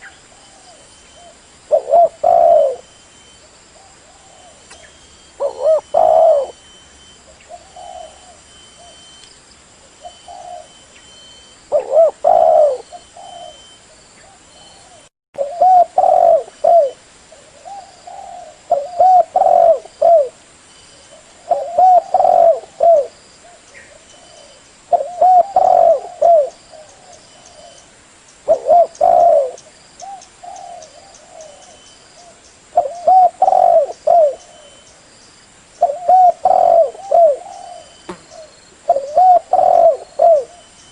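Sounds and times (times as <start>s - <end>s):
dove cooing: 0.0s - 2.9s, 3.8s - 9.1s, 10.0s - 20.4s, 21.1s - 27.8s, 28.5s - 34.8s, 35.8s - 40.8s.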